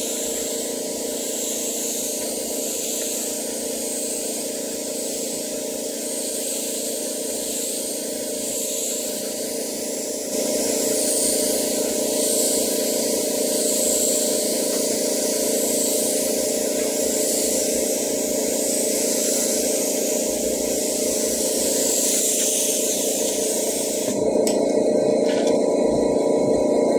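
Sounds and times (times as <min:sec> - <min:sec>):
paint spray gun hissing: 0:00.0 - 0:24.6
steady mechanical hum: 0:00.0 - 0:26.9.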